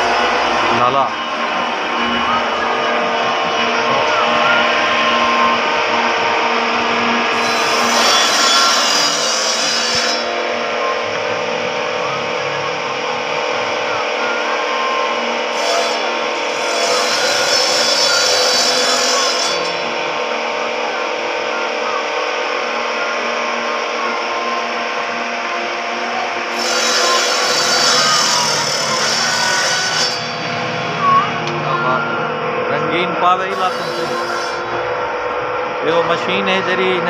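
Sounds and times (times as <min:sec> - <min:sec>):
saw cutting through wood: 0:00.0 - 0:24.5, 0:26.3 - 0:31.0, 0:33.3 - 0:34.9
circular saw running: 0:00.0 - 0:37.0.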